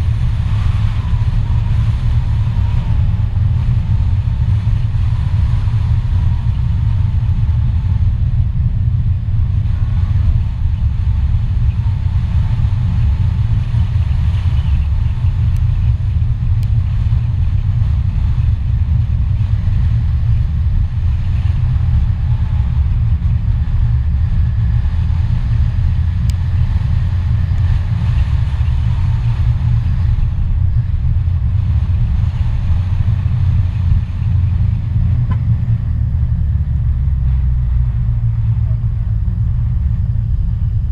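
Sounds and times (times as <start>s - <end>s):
vehicle driving along road: 0.0s - 40.9s.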